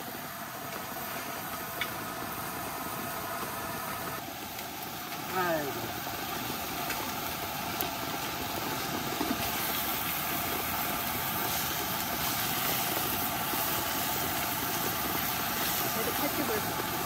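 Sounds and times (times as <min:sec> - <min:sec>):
rain falling on a tent: 0:00.0 - 0:17.0.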